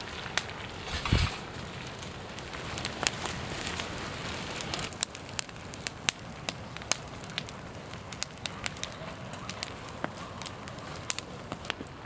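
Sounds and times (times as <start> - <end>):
campfire crackling: 0.0 - 12.0
sharp fire pops: 0.0 - 12.0
steady fire hiss: 0.0 - 12.0.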